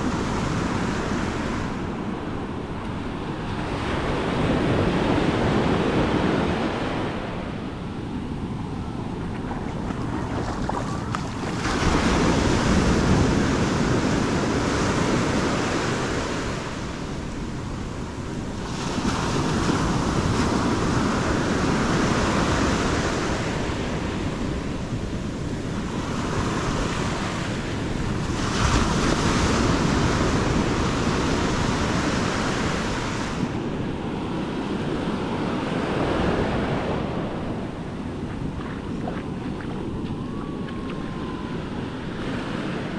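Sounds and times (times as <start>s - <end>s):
ocean surf washing over sand: 0.0s - 42.9s.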